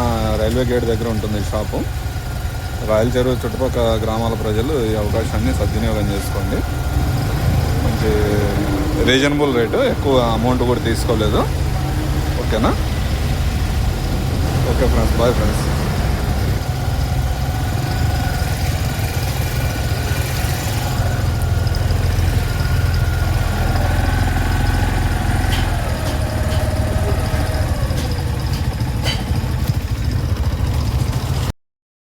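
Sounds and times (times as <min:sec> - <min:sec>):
motorcycle engine rumbling: 0:00.0 - 0:31.5.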